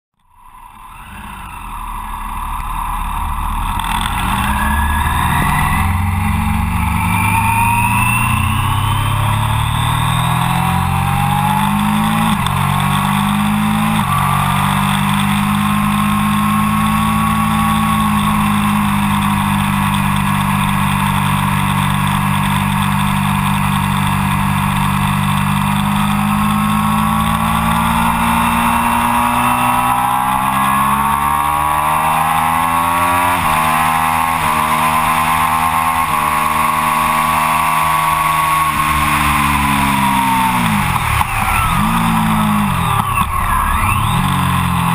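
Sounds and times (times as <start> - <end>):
motorcycle engine at full throttle: 0.2 - 44.9.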